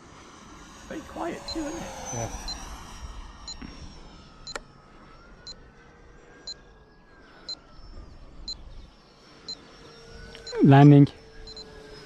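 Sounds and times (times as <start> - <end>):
model jet fan whine: 0.0 - 12.0.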